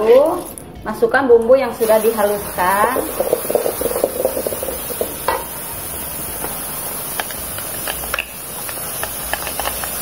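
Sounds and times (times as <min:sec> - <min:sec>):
spice paste sizzling in oil: 0:01.8 - 0:10.0.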